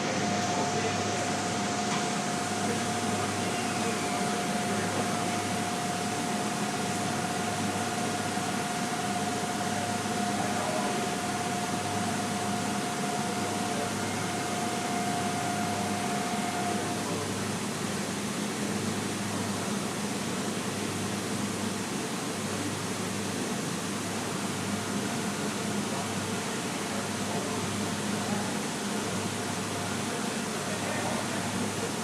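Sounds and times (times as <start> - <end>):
industrial machinery humming: 0.0 - 32.0.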